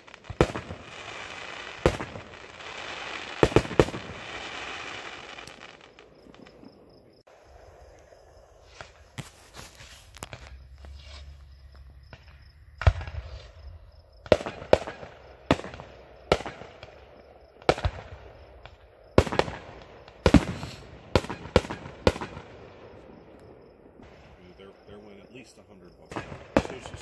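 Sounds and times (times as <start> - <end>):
firework shells bursting: 0.0 - 27.0.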